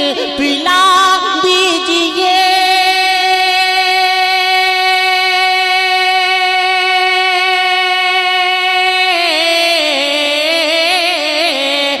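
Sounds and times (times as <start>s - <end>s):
man singing a long high note: 0.0s - 12.0s.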